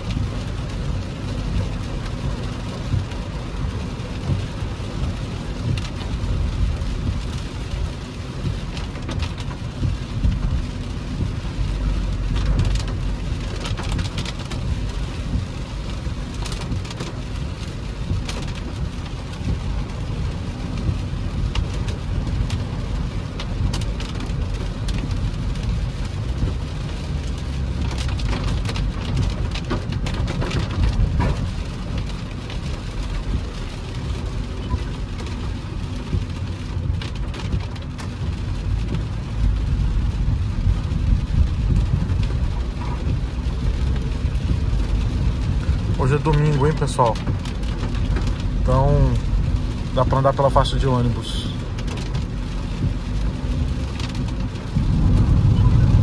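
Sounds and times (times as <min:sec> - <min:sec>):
low rumble: 0:00.0 - 0:46.0, 0:51.4 - 0:56.0
hail and rain pelting a car: 0:00.0 - 0:56.0.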